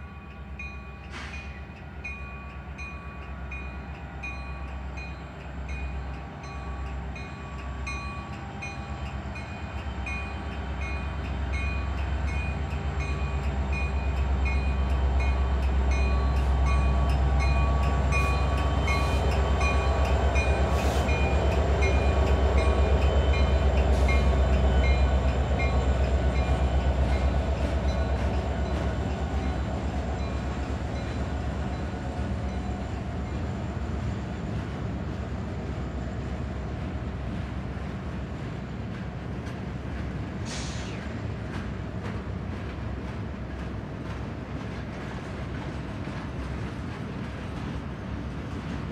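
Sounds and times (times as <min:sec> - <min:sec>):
diesel locomotive engine drone: 0:00.0 - 0:48.9
train wheels on rails: 0:00.0 - 0:48.9.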